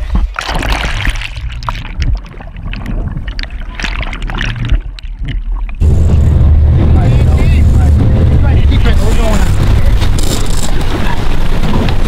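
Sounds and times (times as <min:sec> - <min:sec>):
muffled underwater rush of bubbles: 0:00.0 - 0:12.0.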